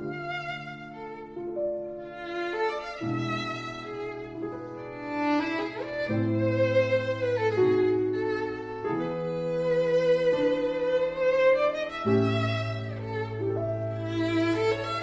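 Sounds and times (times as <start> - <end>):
violin melody: 0.0 - 15.0.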